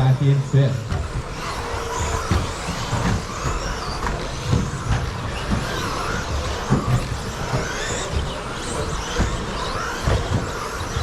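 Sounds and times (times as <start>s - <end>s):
electric motors whining: 0.0s - 11.0s
thuds: 0.8s - 11.0s.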